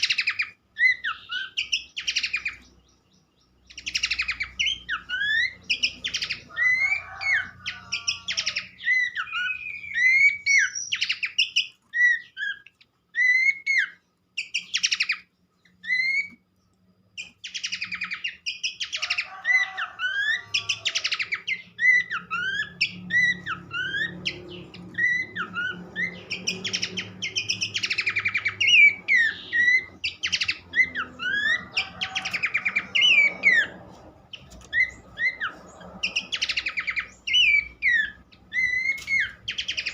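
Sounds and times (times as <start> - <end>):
babbler bird chirps and whistles: 0.0 - 16.5, 17.2 - 39.9.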